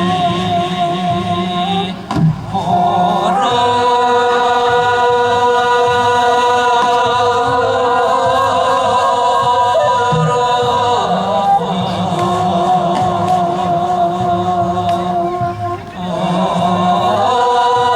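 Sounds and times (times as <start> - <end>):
voices singing long held notes: 0.0 - 17.9.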